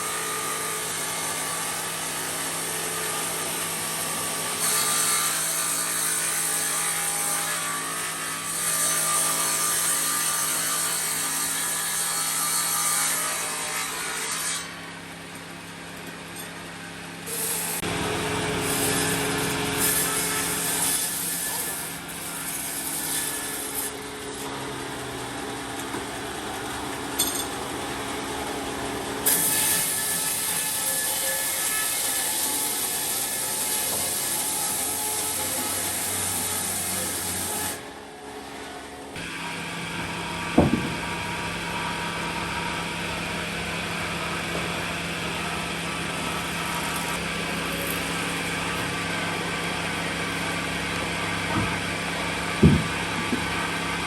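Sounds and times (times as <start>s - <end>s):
saw cutting through wood: 0.0s - 25.8s, 27.2s - 54.0s.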